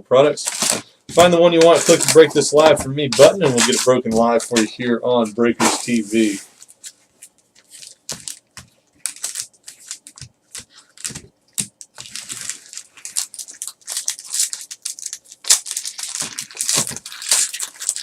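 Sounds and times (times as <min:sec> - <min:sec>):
packaging crinkling and ripping: 0:00.4 - 0:04.7, 0:05.6 - 0:18.0.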